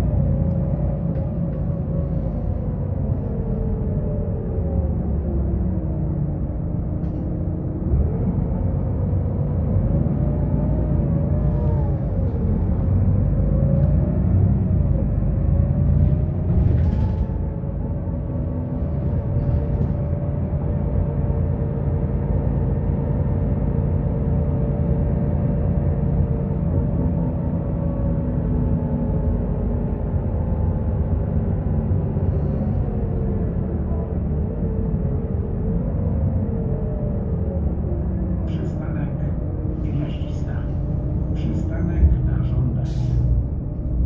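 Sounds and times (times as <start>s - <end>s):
bus engine and road rumble: 0.0s - 44.0s.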